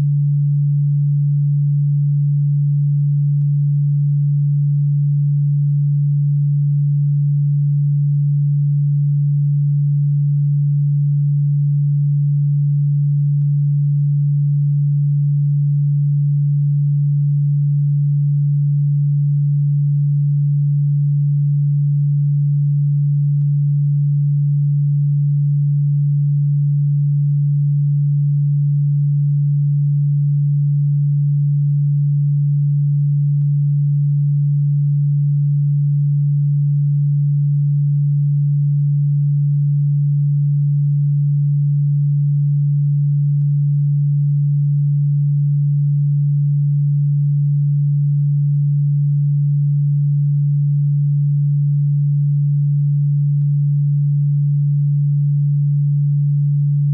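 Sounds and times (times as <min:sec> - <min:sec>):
low electronic sine tone: 0:00.0 - 0:56.9.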